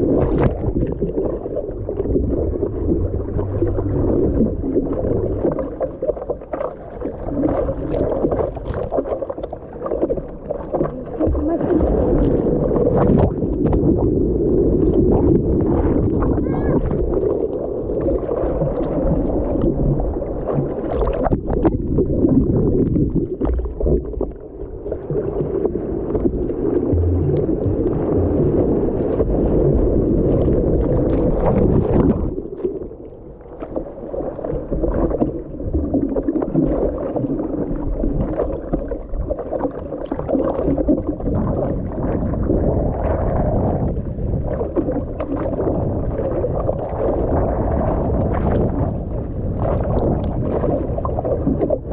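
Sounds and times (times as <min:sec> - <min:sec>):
surf churning and splashing: 0:00.0 - 0:51.9.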